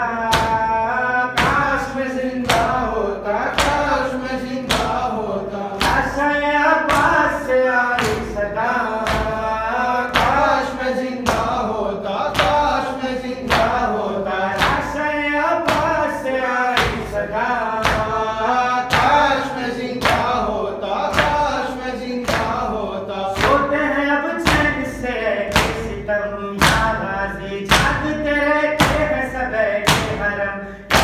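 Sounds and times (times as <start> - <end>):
man chanting a lament: 0.0 - 31.0.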